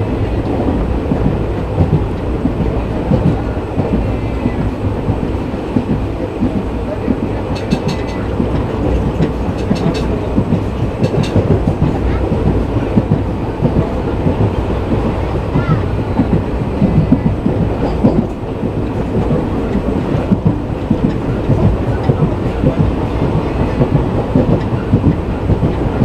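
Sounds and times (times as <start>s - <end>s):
train coach rumbling: 0.0s - 26.0s
wheels clattering over rails: 0.0s - 26.0s.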